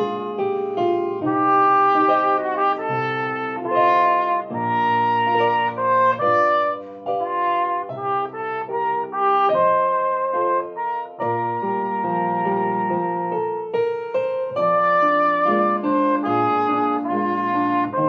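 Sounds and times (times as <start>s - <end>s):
piano accompaniment: 0.0s - 18.0s
solo cornet melody: 0.0s - 18.0s.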